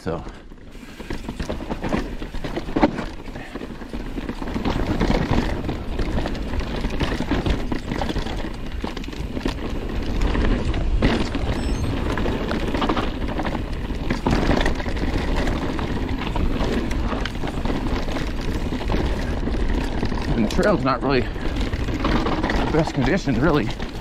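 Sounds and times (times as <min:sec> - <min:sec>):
bike knocking and rattling: 0:00.0 - 0:24.0
bike tyres rushing on dirt: 0:00.0 - 0:24.0.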